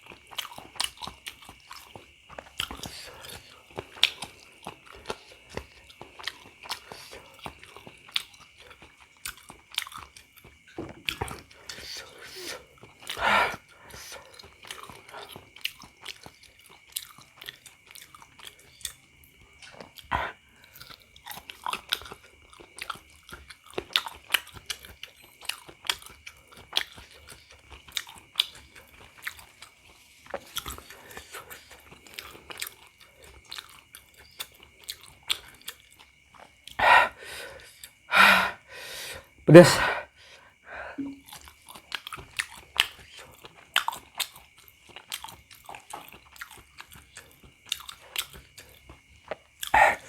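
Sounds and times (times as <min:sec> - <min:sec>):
close-up chewing: 0:00.0 - 0:39.4, 0:40.1 - 0:50.0.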